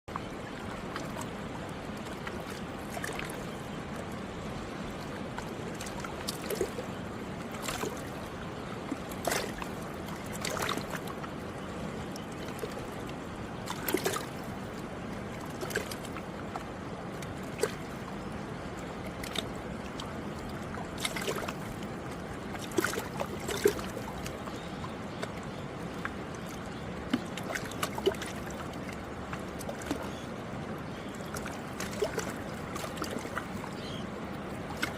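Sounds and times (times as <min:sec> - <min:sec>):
water splashing and gurgling: 0:00.0 - 0:34.9
river water flowing: 0:00.1 - 0:34.9.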